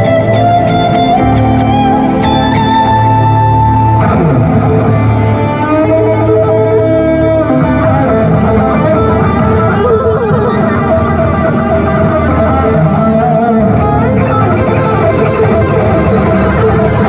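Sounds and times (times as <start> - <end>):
live band music led by guitar: 0.0 - 17.0
steady bass: 0.0 - 17.0.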